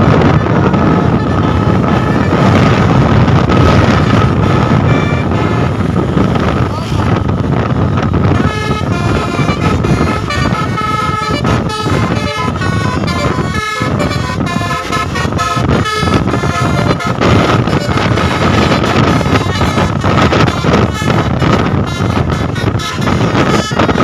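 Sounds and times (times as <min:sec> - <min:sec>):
bus horn tooting a tune: 0:00.0 - 0:24.0
engine and road noise: 0:00.0 - 0:24.0.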